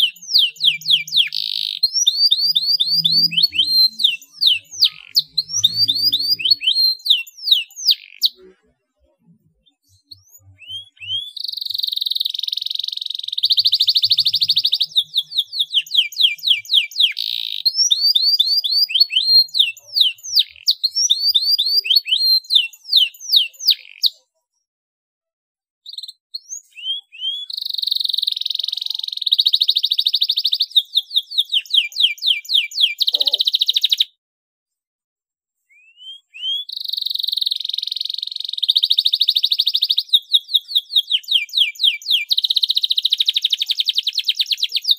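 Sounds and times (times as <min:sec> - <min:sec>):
canary singing with rolling trills: 0:00.0 - 0:24.6, 0:25.8 - 0:34.2, 0:35.6 - 0:44.9.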